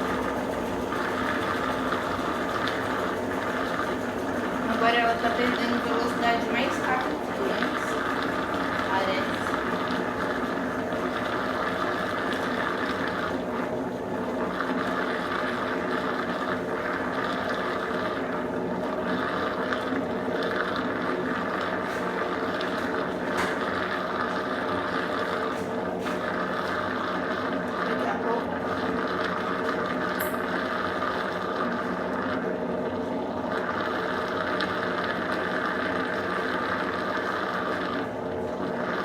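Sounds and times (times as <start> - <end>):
washing machine humming: 0.0 - 39.0.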